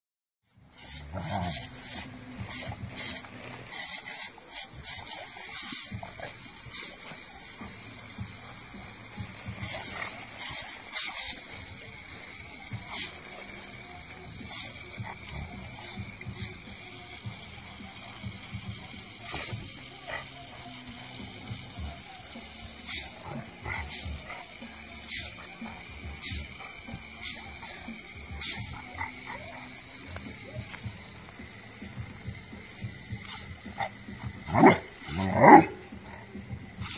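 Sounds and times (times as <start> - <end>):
sprinkler jet hissing: 0.4 - 36.9.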